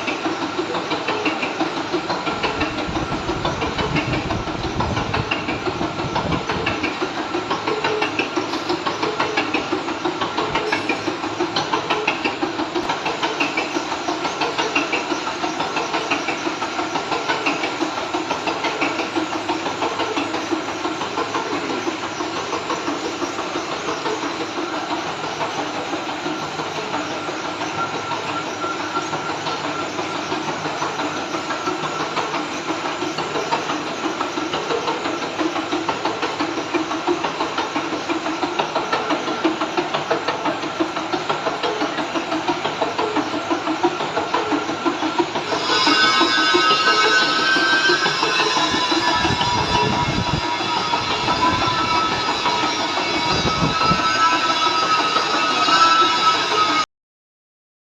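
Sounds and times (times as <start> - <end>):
metal lathe humming and whining: 0.0 - 56.8.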